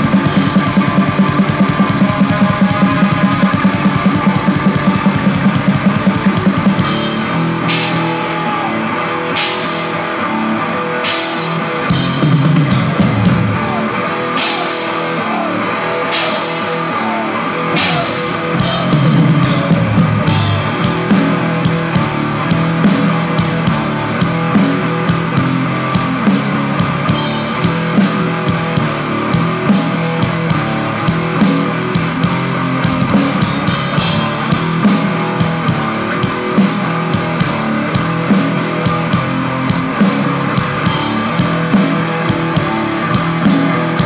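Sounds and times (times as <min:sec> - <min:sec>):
distorted guitar and bass: 0:00.0 - 0:44.0
drum kit: 0:00.0 - 0:44.0.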